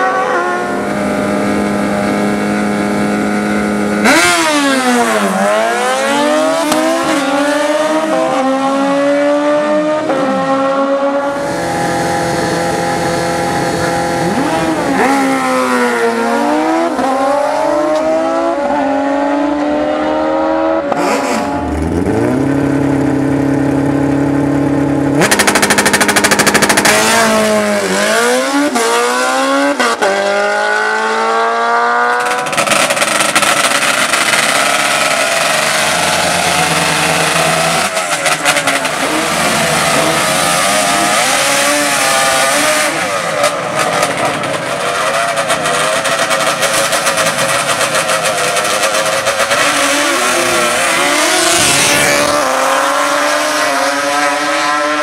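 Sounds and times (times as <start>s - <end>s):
drag-race engines revving: 0.0s - 55.0s.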